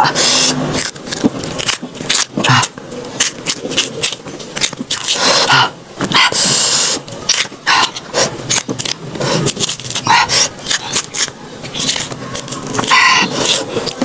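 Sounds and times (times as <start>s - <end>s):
banana peel tearing: 0.2s - 14.0s.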